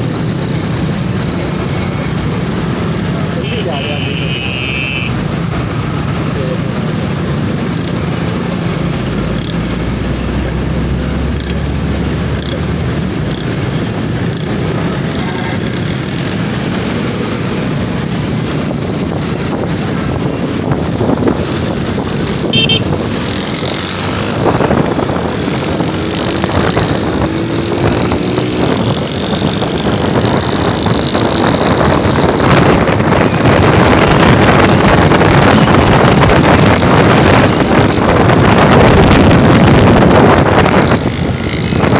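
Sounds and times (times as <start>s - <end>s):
motorcycle engine and road noise: 0.0s - 41.9s.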